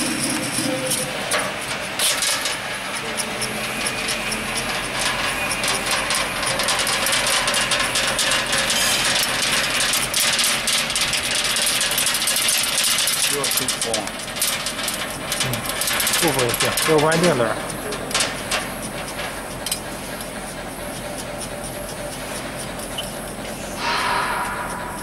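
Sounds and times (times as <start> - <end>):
machine whirring and clicking: 0.0 - 25.0.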